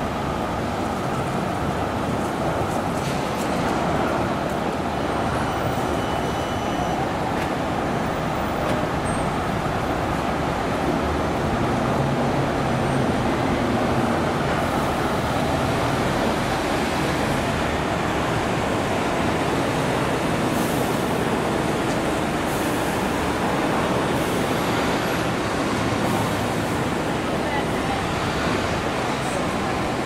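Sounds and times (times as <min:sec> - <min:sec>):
street traffic noise: 0:00.0 - 0:30.0.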